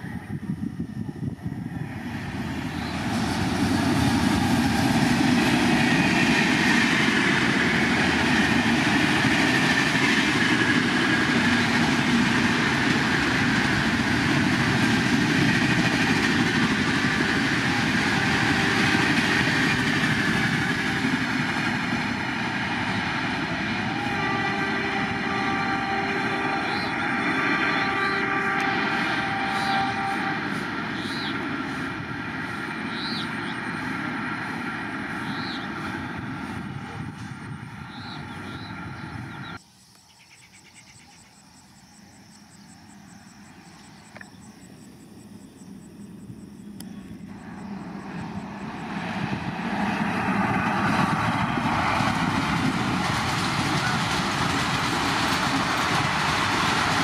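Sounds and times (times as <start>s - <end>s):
train wheels rushing on rail: 0.0s - 39.7s, 42.3s - 57.0s.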